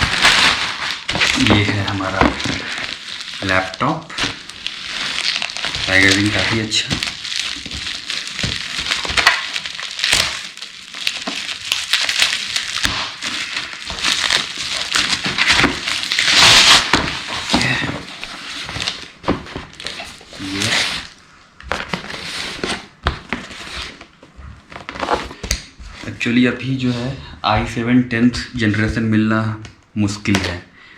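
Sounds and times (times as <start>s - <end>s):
packaging crinkling and rustling: 0.0s - 26.2s.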